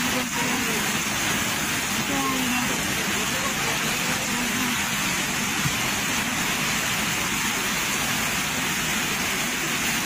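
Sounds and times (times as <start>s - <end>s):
heavy rain: 0.0s - 10.0s
rushing flood torrent: 0.0s - 10.0s.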